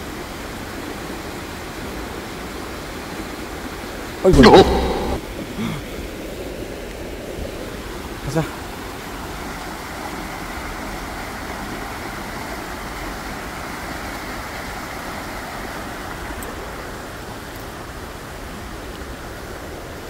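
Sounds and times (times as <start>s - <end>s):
stream rushing in flood: 0.0s - 4.3s, 5.3s - 20.0s.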